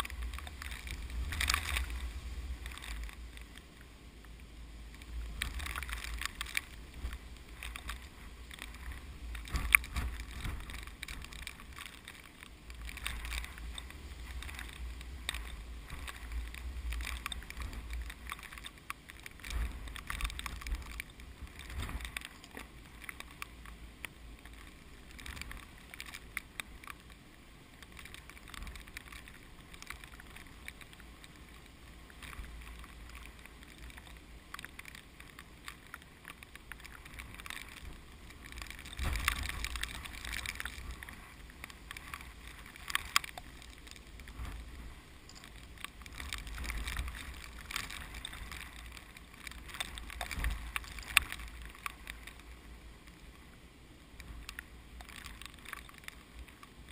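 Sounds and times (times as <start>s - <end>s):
rice plants rustling: 0.0s - 56.9s.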